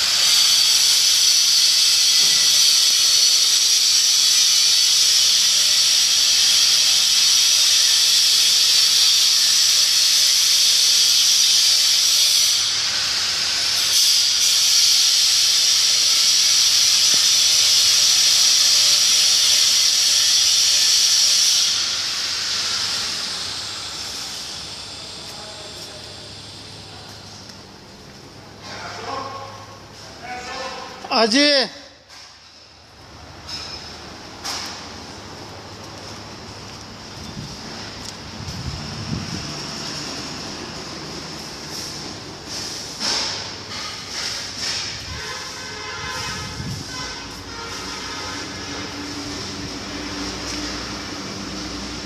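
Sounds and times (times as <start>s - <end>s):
loud steady hiss: 0.0s - 52.0s.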